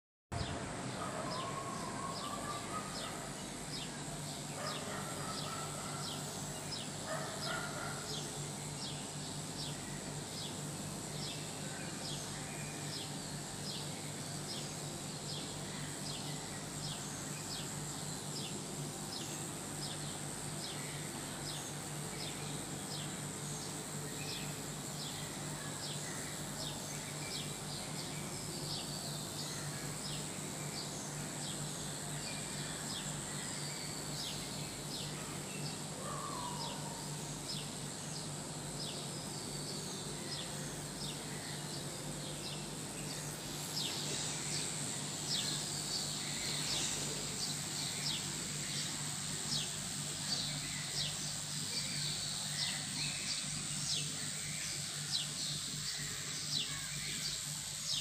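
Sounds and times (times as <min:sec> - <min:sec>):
steady low hum: 0:00.4 - 0:58.0.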